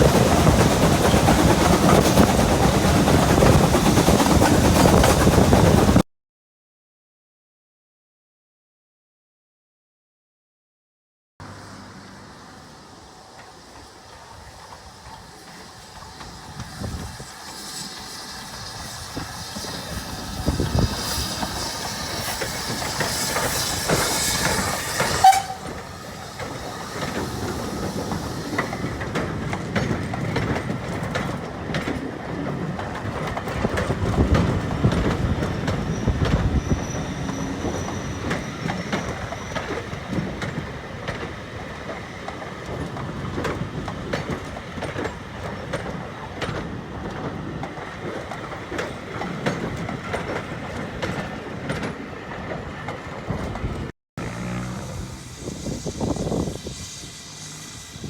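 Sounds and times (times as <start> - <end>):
locomotive rushing noise: 0.0 - 6.0, 11.4 - 58.0
train wheels clacking on rail joints: 0.0 - 6.0, 13.2 - 58.0.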